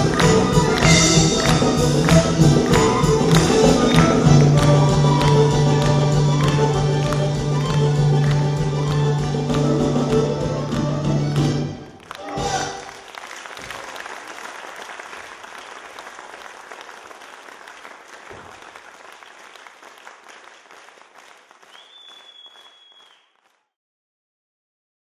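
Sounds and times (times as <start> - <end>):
audience applause: 0.0 - 23.6.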